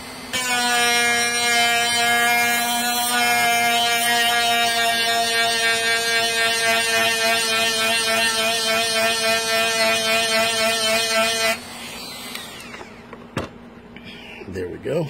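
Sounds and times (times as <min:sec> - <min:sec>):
rotary tool grinding metal: 0:00.4 - 0:12.9.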